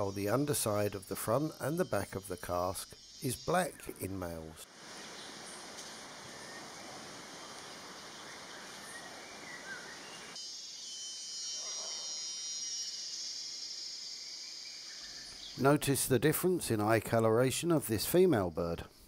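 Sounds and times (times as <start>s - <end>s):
high fine insect drone: 0.0s - 19.0s
insect chorus: 0.0s - 19.0s.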